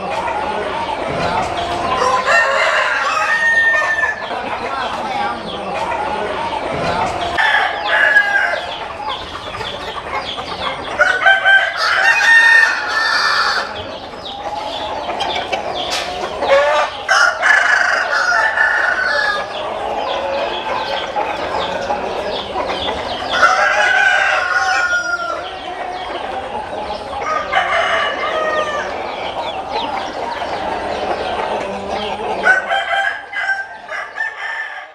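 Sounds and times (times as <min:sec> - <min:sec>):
chickens clucking and calling: 0:00.0 - 0:34.9
roosters crowing: 0:00.0 - 0:34.9.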